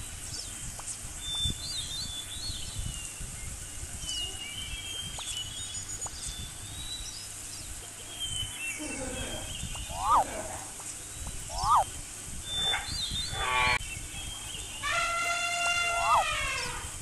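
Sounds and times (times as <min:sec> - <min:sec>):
low outdoor rumble: 0:00.0 - 0:14.8
birds chirping and whistling: 0:00.4 - 0:16.9.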